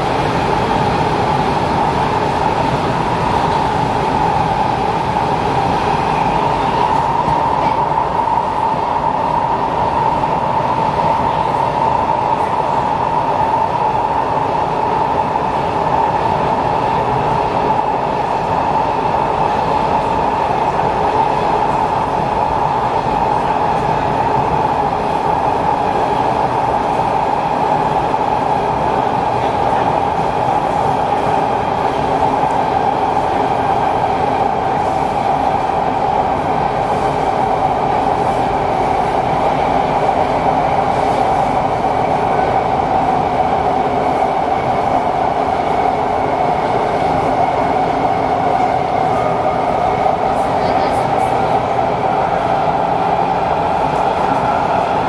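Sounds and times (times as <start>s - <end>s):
metro train wheels and motors: 0.0s - 55.0s.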